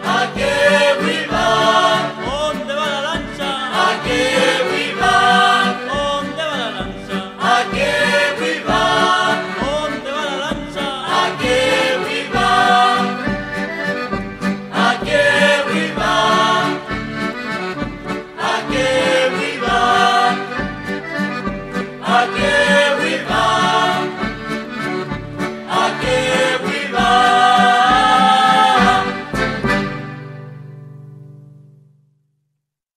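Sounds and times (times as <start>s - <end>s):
low beat: 0.0s - 30.1s
accordion folk music: 0.0s - 31.6s.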